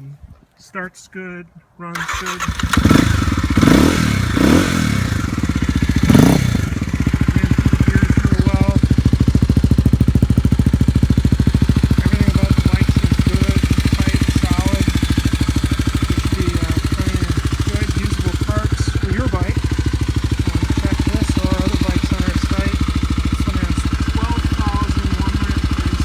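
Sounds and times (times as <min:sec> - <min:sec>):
motorcycle engine revving and idling: 0:02.0 - 0:26.0.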